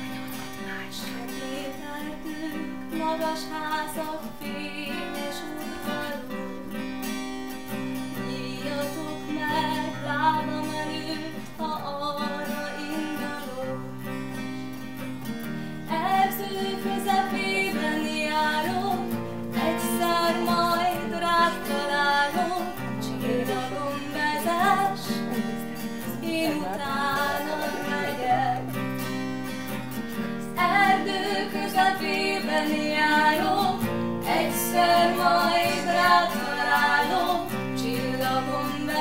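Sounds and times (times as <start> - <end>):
woman singing: 0.0 - 6.8, 7.8 - 14.2, 15.9 - 29.2, 30.4 - 39.0
acoustic guitar: 0.0 - 39.0.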